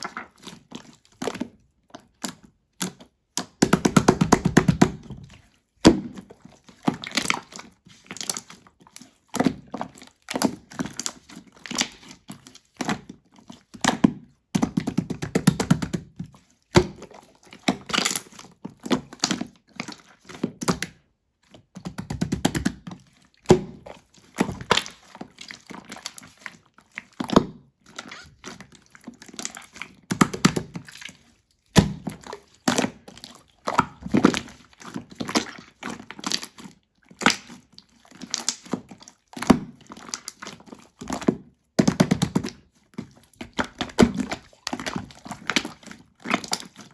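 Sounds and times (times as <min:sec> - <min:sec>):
slime squished by hand: 0:00.0 - 0:20.8, 0:21.8 - 0:46.9.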